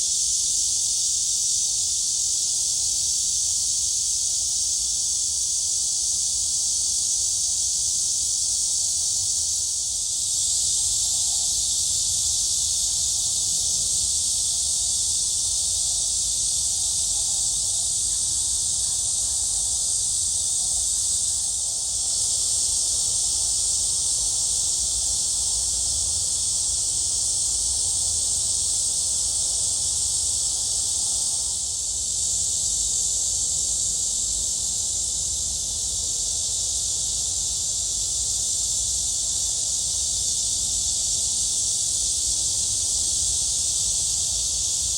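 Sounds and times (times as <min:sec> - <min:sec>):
cicadas buzzing: 0:00.0 - 0:44.9.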